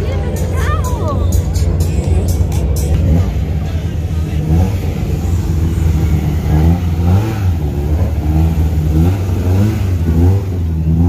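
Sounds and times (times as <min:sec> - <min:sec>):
rally car engines revving: 0:00.0 - 0:11.0.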